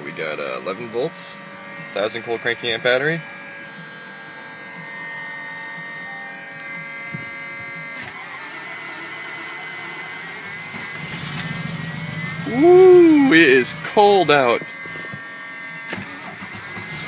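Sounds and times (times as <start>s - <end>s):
deep engine hum: 0.0s - 17.0s
electrical whirring whine: 0.0s - 17.0s.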